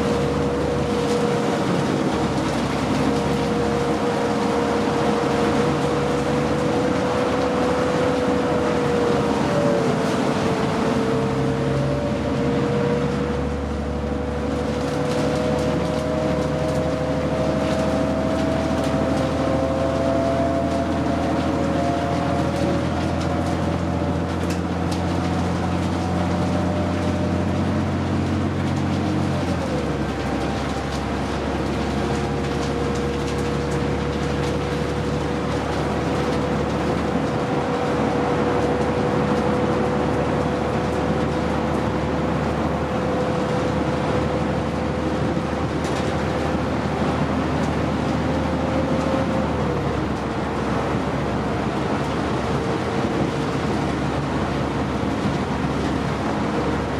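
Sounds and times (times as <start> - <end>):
bus engine drone: 0.0 - 56.9
road noise: 0.0 - 56.9.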